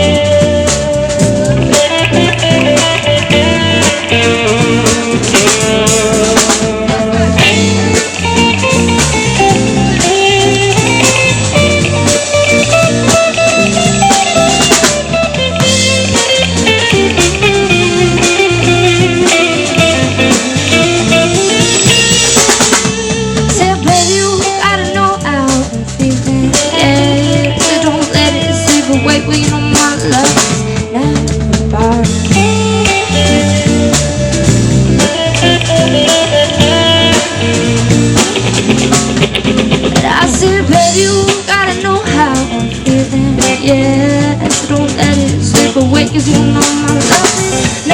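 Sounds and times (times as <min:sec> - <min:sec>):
bass: 0:00.0 - 0:47.9
drum kit: 0:00.0 - 0:47.9
electric guitar: 0:00.0 - 0:47.9.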